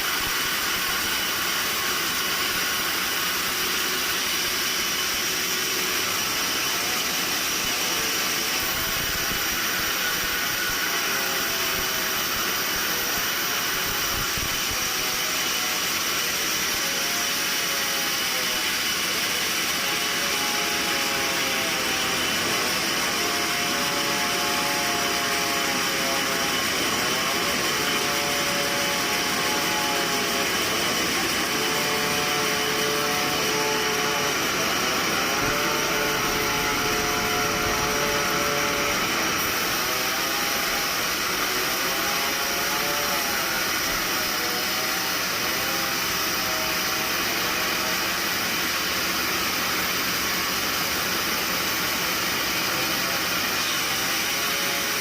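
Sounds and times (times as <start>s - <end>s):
high mechanical whine: 0.0s - 55.0s
sawmill machinery running: 0.0s - 55.0s.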